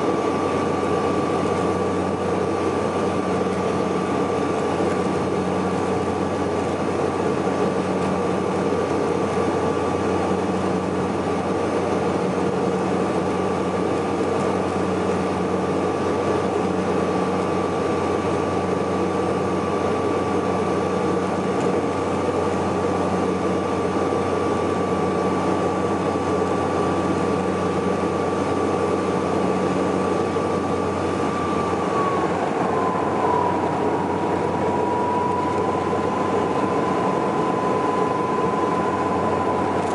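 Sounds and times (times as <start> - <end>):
engine and propeller drone: 0.0 - 39.9
high steady whine: 0.0 - 39.9.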